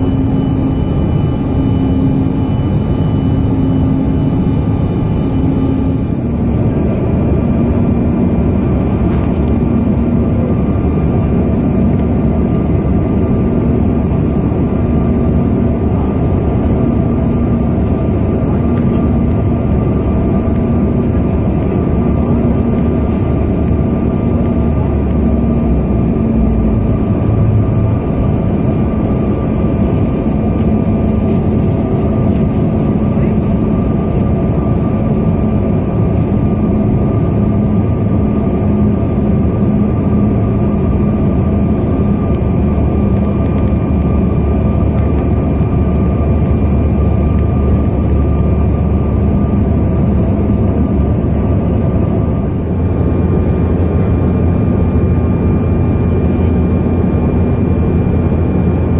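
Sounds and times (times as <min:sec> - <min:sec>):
faint steady whine: 0:00.0 - 0:58.9
jet engine drone and rushing air: 0:00.0 - 0:58.9.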